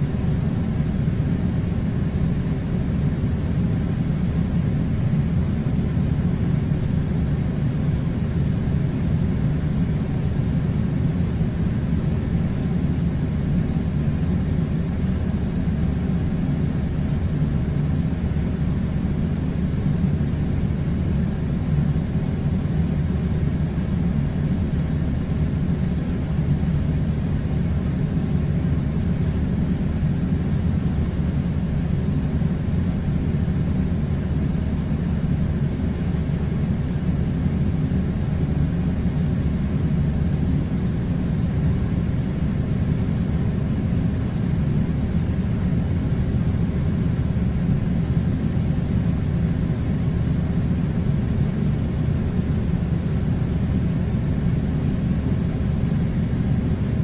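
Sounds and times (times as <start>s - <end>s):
air conditioner rumbling: 0.0s - 57.0s.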